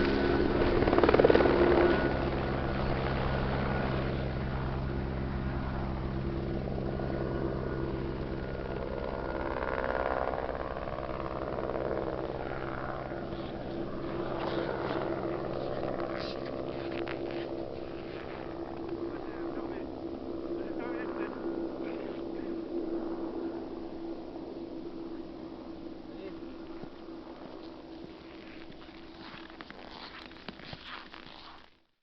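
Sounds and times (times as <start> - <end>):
helicopter turbine and rotor drone: 0.0 - 31.6.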